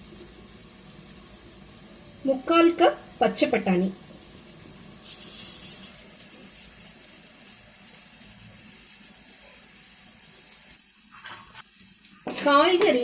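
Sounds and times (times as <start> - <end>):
vegetables sizzling in pot: 0.0 - 13.0.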